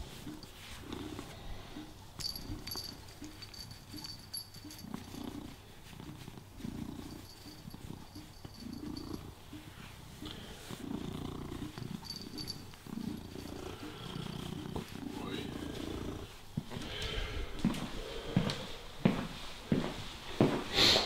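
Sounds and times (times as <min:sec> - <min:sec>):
cat purring: 0:00.0 - 0:17.1.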